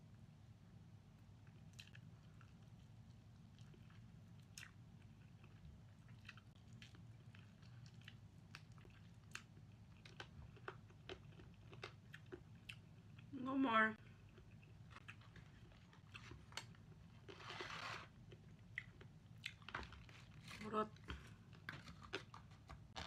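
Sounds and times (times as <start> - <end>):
low steady hum: 0.0 - 23.0
chewing crispy chicken: 1.4 - 13.3, 14.0 - 20.6.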